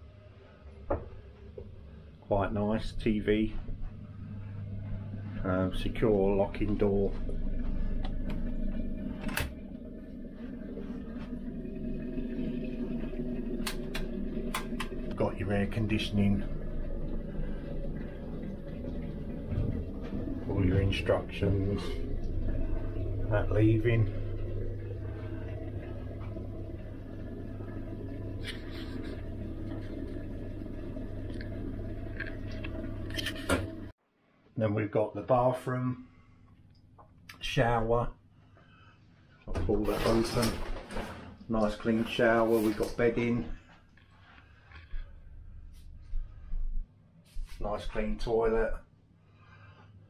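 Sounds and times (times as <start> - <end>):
low machinery hum: 0.0 - 34.0, 35.4 - 50.0.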